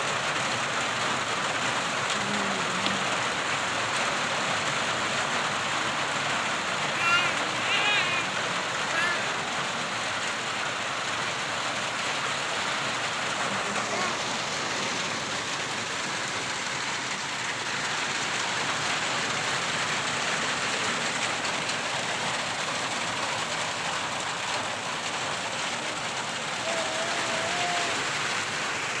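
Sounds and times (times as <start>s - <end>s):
steady rain on surfaces: 0.0s - 29.0s.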